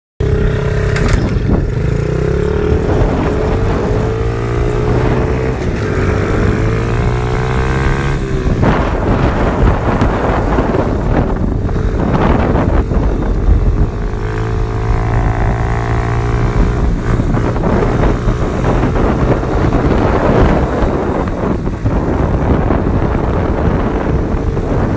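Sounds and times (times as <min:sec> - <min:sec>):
small motorbike engine running: 0:00.2 - 0:24.9
wind buffeting microphone: 0:00.2 - 0:24.9.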